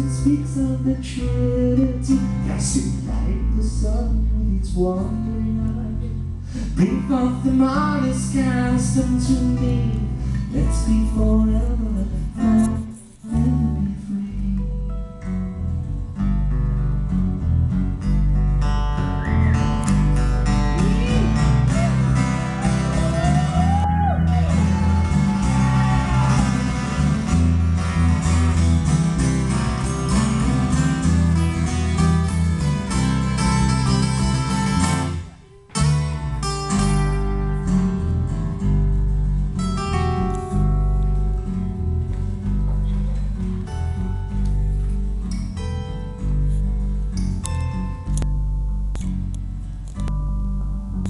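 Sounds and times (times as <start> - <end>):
acoustic guitars playing: 0.0 - 51.0.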